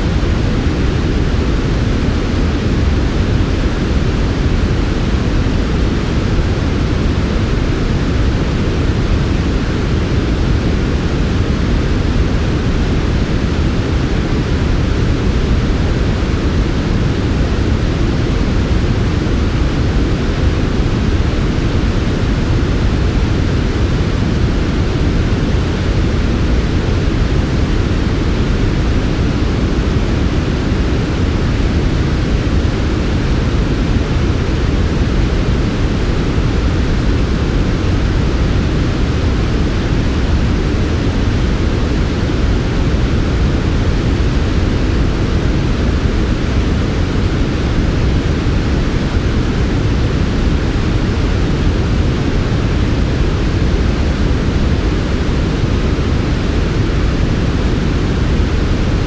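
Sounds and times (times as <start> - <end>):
low white noise: 0.0 - 59.0.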